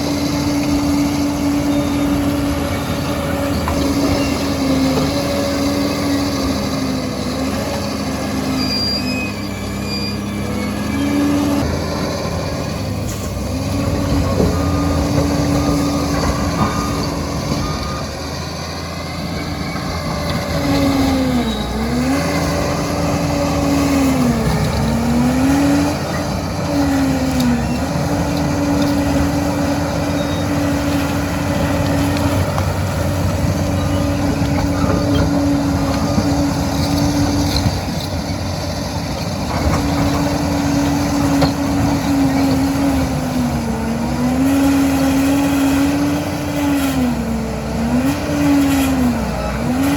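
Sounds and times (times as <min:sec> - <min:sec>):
dozer engine whining: 0:00.0 - 0:49.9.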